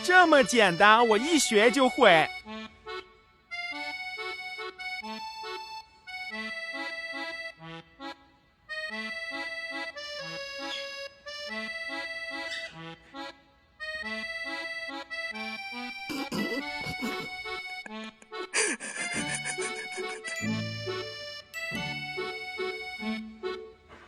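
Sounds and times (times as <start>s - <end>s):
reedy melody: 0.0s - 8.0s, 8.7s - 24.0s.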